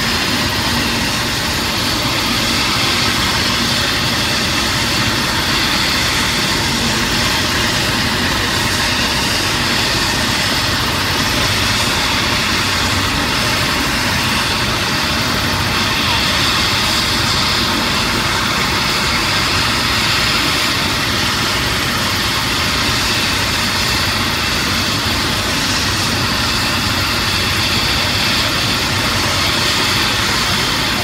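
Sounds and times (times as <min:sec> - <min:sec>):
helicopter engine and rotor running: 0:00.0 - 0:31.0.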